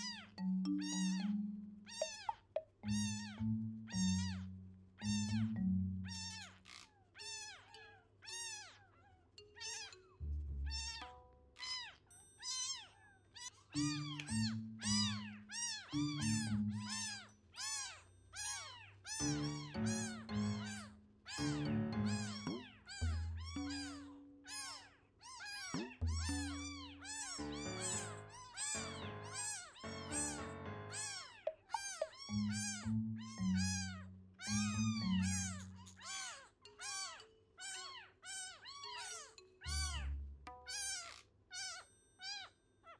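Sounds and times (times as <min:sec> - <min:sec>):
soft background music: 0:00.0 - 0:08.8, 0:09.4 - 0:12.6, 0:13.7 - 0:24.7, 0:25.4 - 0:41.2.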